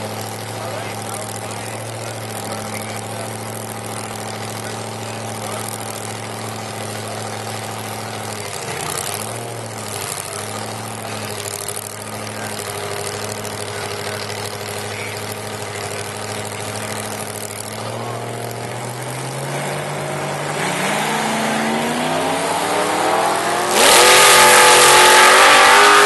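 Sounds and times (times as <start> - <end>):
truck engine idling: 0.0 - 23.7.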